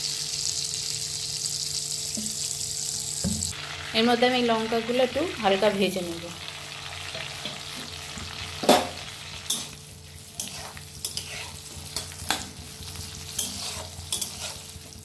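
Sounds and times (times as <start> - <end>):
chillies sizzling in hot oil: 0.0 - 15.0.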